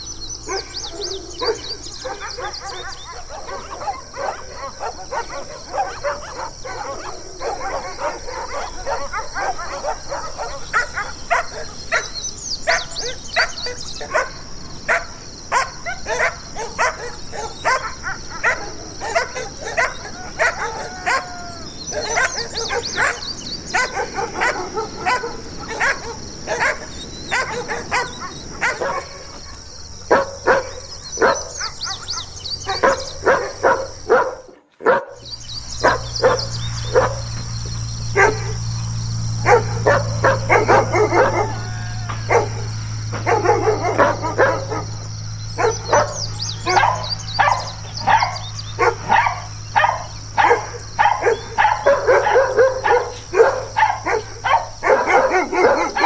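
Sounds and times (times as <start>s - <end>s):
dogs barking: 0.0s - 56.0s
steady low hum: 0.0s - 56.0s.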